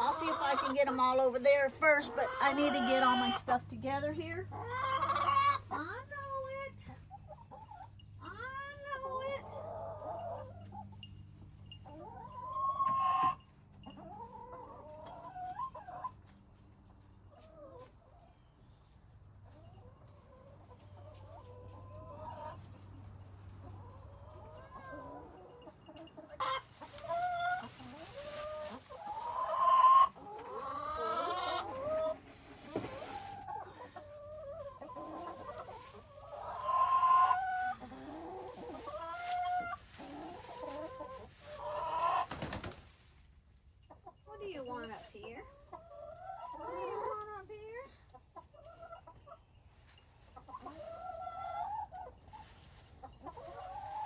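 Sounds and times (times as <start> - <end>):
hens clucking and squawking: 0.0 - 54.0.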